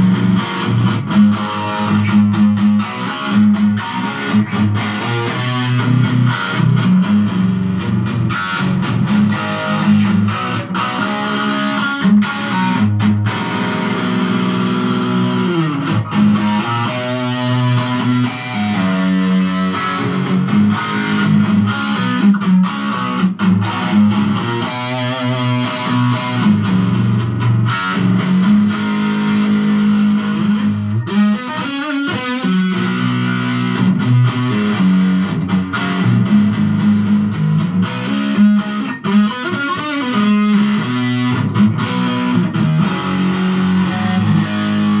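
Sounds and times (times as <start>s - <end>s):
distorted electric guitar riffs: 0.0s - 45.0s.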